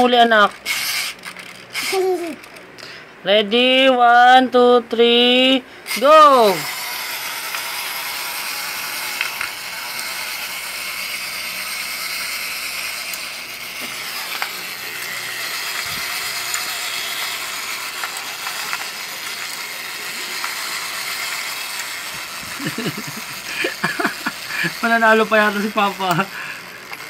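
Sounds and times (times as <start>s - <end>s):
toy motor whirring rattle: 0.0s - 2.9s, 5.8s - 27.0s.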